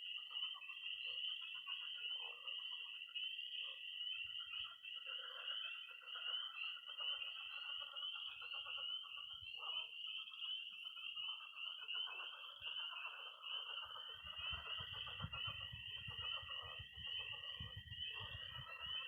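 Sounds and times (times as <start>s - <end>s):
pond frogs croaking: 0.0s - 19.0s
high peeping of frogs: 0.1s - 19.0s.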